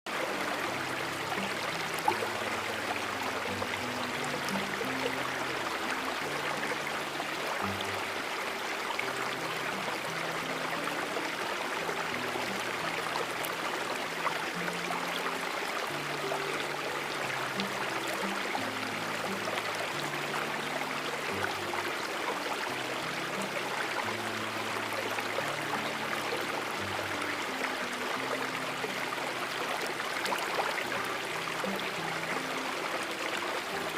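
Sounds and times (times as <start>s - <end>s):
stream water flowing: 0.1s - 33.9s.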